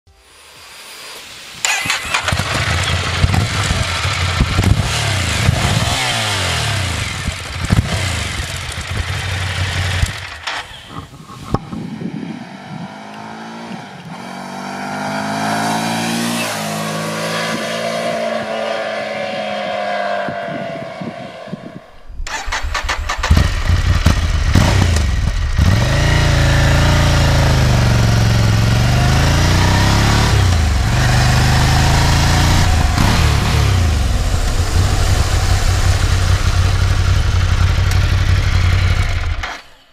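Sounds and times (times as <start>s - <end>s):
motorcycle engine revving: 1.6s - 11.1s, 11.7s - 21.6s, 22.2s - 39.8s.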